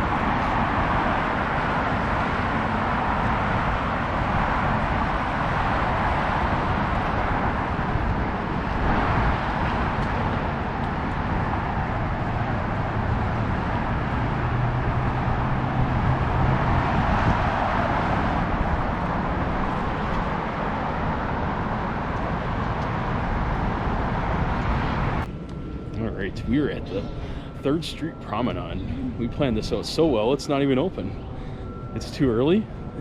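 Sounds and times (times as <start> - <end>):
passing vehicle engine hum: 0.0 - 33.0
road traffic noise: 0.0 - 33.0.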